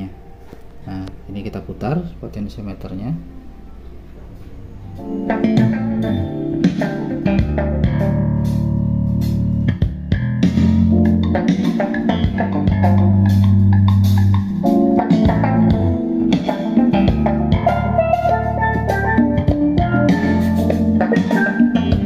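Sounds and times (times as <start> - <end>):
jazz with bass guitar and drums: 3.9 - 22.0.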